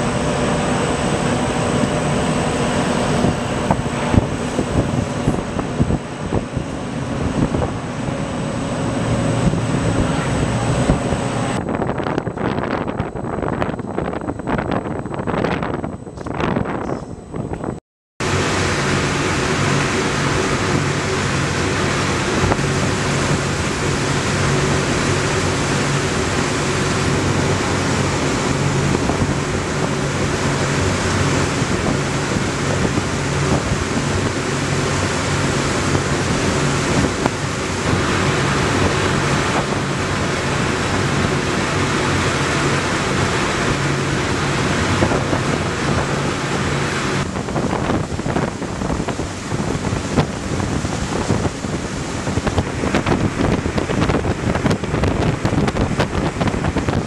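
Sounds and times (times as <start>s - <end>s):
water rushing from wake: 0.0s - 14.7s, 18.2s - 57.0s
ferry engine droning: 0.0s - 57.0s
wind buffeting microphone: 0.0s - 57.0s.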